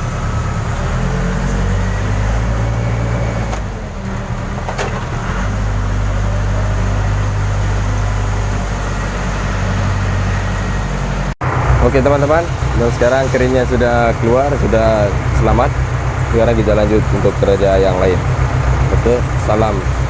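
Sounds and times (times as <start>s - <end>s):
backhoe diesel engine running: 0.0s - 20.0s.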